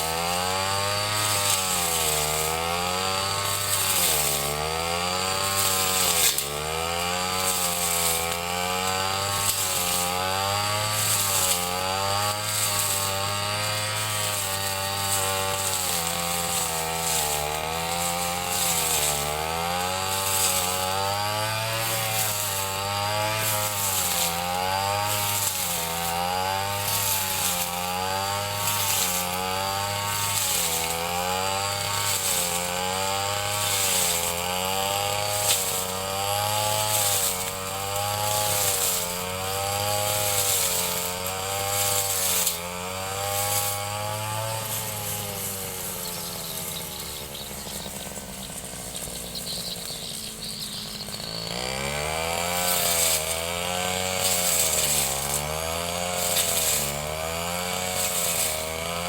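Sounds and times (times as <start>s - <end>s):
brush cutter cutting grass: 0.0s - 59.0s.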